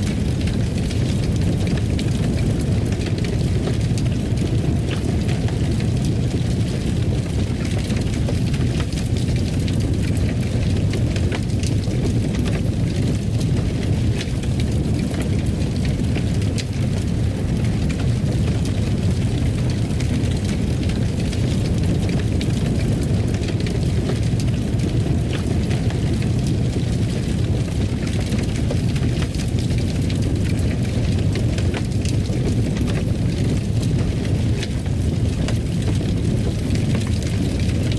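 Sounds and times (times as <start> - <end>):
fireplace fire crackling: 0.0 - 37.9.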